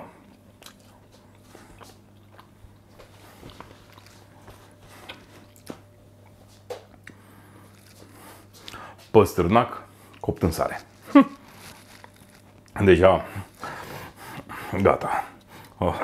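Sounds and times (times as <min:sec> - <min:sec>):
low steady hum: 0:00.0 - 0:16.0
person chewing: 0:00.2 - 0:09.0, 0:10.0 - 0:14.6.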